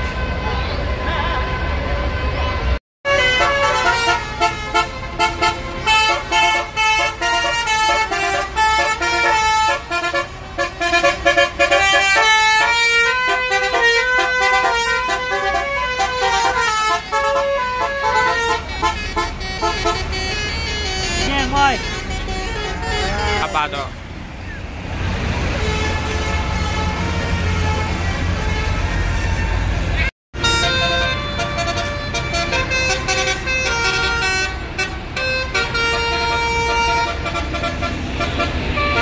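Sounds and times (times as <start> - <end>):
multi-tone bus horn melody: 0.0 - 23.9, 25.2 - 39.0.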